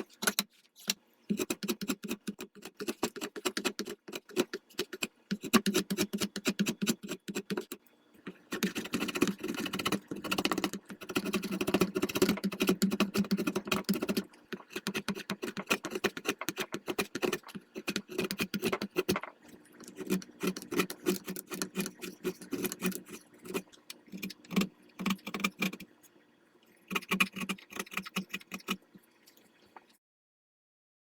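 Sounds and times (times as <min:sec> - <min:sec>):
draw knife scraping wood: 0:00.0 - 0:25.9, 0:26.9 - 0:28.8.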